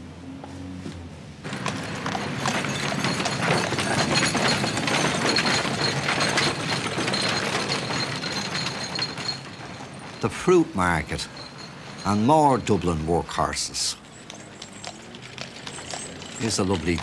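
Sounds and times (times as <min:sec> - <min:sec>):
horse hooves clip-clopping on road: 0:01.4 - 0:17.0.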